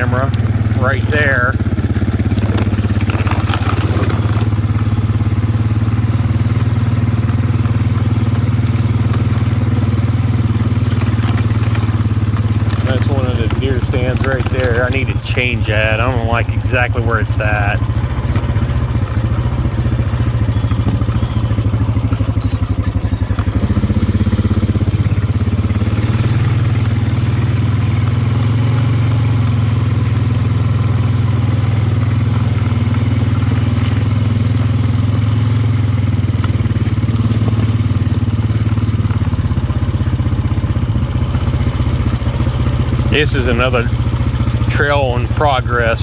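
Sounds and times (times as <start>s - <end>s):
atv engine running: 0.0s - 46.0s
clatter and knocks: 1.6s - 45.7s.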